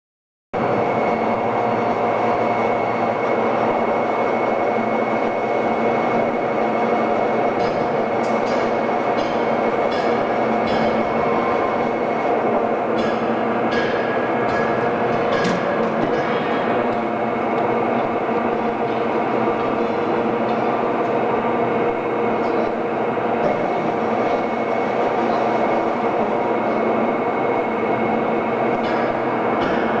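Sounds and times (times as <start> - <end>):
low mechanical rumble: 0.6 - 30.0
train machinery high whine: 0.6 - 30.0.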